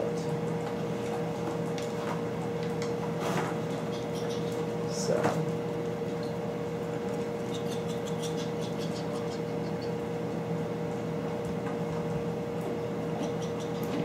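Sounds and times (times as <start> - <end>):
mechanical room hum: 0.0 - 14.0.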